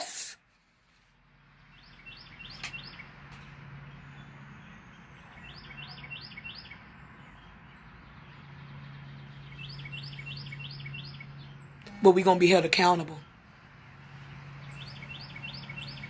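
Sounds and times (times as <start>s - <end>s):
small birds chirping: 1.4s - 16.0s.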